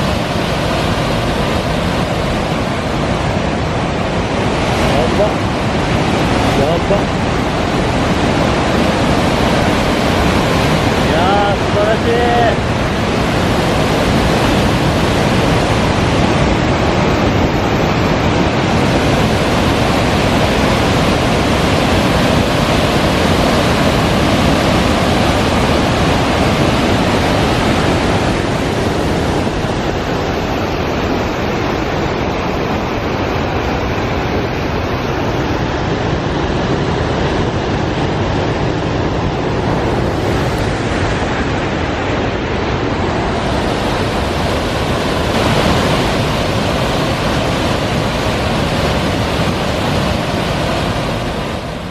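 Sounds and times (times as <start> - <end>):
waterfall roar: 0.0 - 51.9.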